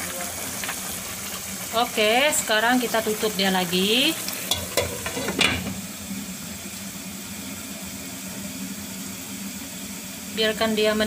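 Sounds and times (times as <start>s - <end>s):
chicken simmering with hiss: 0.0s - 11.0s.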